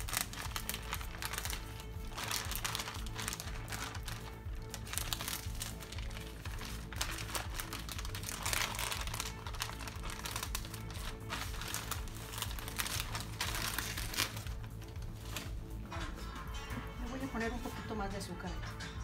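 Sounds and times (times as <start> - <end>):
plastic sheet crinkling: 0.0 - 15.9
background music: 0.0 - 19.0.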